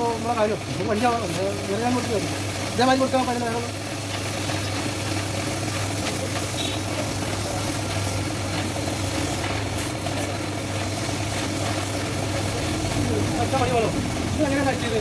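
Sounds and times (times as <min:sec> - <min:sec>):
arc welding hum and hiss: 0:00.0 - 0:15.0.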